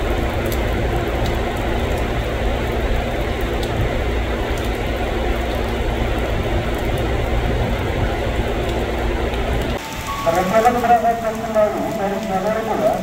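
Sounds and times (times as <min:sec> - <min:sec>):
electric train rumbling: 0:00.0 - 0:13.0
heavy rain pouring: 0:00.0 - 0:13.0.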